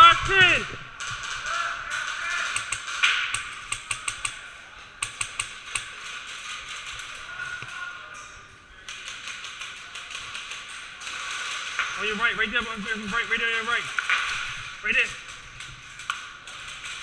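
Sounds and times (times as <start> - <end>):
airsoft guns firing: 0.0 - 7.6, 8.9 - 17.0.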